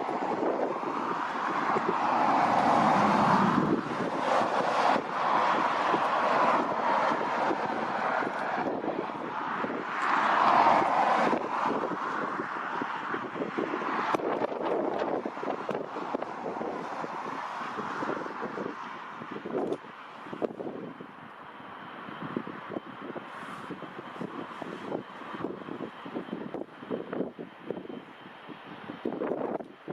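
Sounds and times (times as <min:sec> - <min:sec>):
jet engine noise: 0:00.0 - 0:29.9
wind buffeting microphone: 0:00.0 - 0:29.9.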